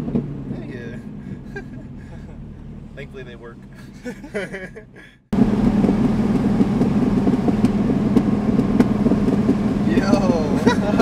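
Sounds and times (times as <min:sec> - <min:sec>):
car engine drone from cabin: 0:00.0 - 0:11.0.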